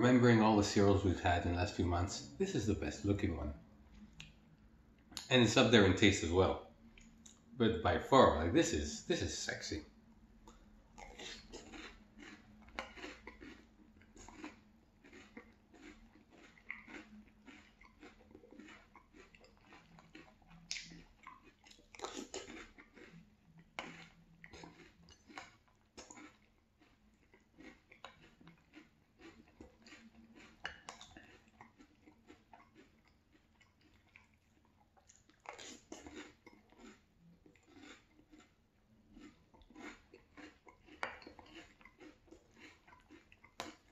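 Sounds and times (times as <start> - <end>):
chewing crunchy cereal: 0.1 - 7.5, 8.2 - 43.9.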